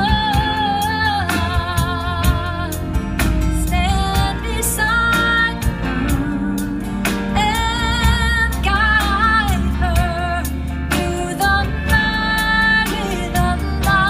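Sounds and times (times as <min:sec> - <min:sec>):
electric bass guitar: 0:00.0 - 0:14.0
steady drum beat: 0:00.0 - 0:14.0
woman singing: 0:00.0 - 0:14.0.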